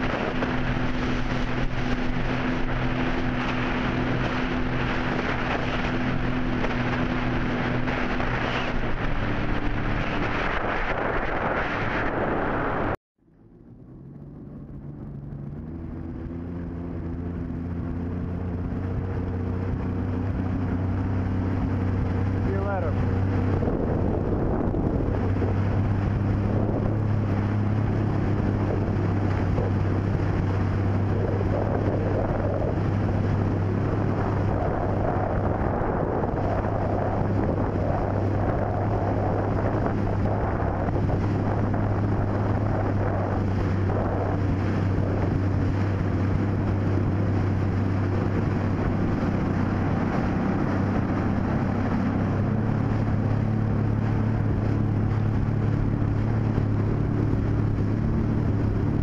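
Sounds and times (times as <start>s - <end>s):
wind buffeting microphone: 0.0s - 13.0s, 13.6s - 59.0s
motorboat engine droning: 0.0s - 59.0s.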